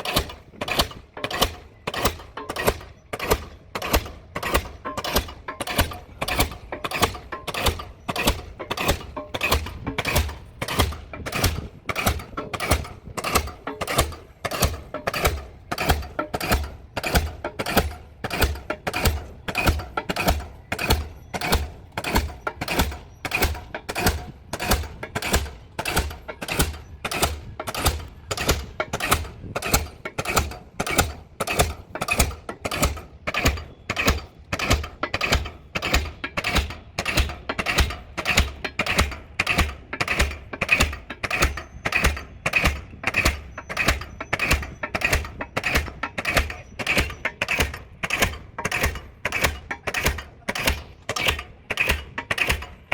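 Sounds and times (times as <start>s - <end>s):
diesel pile hammer blows: 0.0s - 52.9s.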